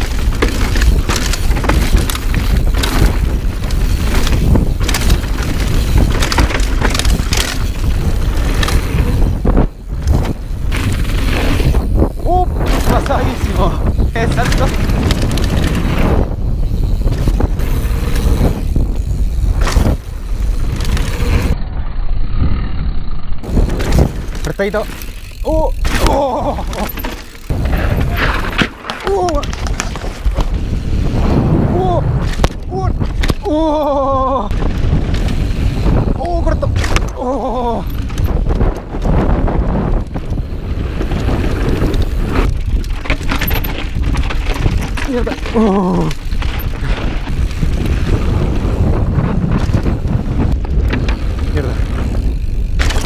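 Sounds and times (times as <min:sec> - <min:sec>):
bike clattering over bumps: 0:00.0 - 0:21.6, 0:23.4 - 0:31.6, 0:32.2 - 0:53.0
wind buffeting microphone: 0:00.0 - 0:53.0.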